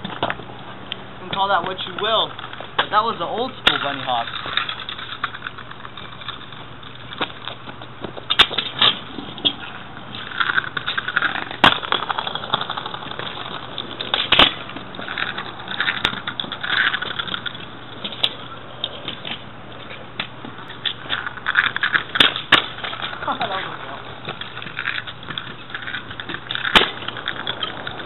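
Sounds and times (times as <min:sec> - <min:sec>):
scooter rolling over concrete: 0:00.0 - 0:28.0
scooter deck clacking: 0:01.3 - 0:28.0.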